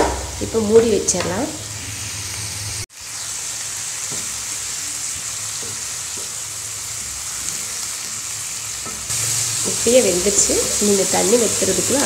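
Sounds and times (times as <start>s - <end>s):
cabbage sizzling in a frying pan: 0.0s - 12.0s.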